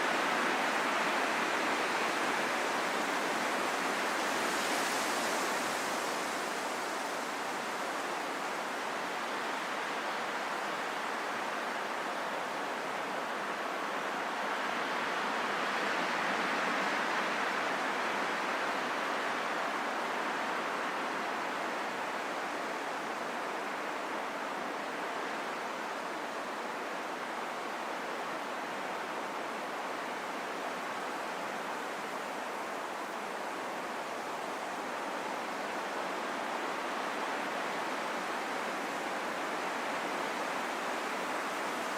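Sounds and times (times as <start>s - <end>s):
rain falling in a forest: 0.0s - 41.9s.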